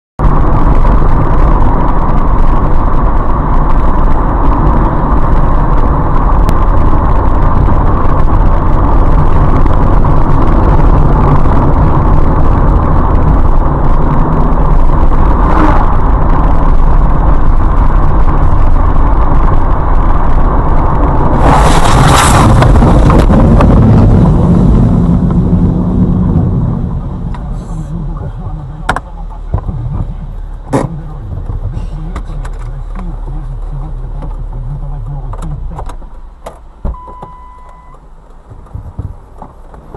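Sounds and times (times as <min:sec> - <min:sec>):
loud vehicle noise: 0:00.2 - 0:37.1.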